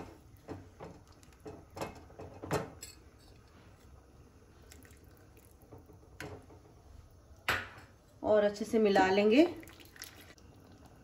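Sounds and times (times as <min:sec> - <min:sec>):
gravy simmering: 0:00.0 - 0:08.2, 0:09.4 - 0:11.0.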